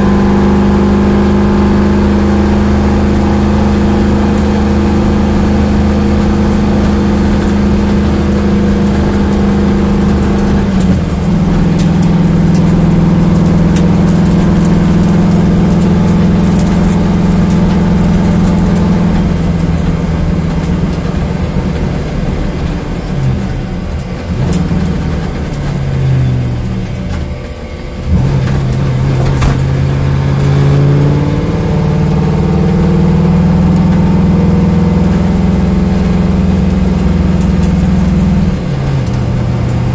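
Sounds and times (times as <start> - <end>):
car engine misfiring: 0.0 - 39.9.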